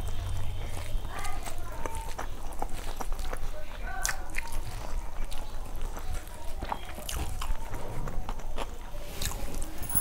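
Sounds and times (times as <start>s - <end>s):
person chewing food: 0.0s - 9.8s.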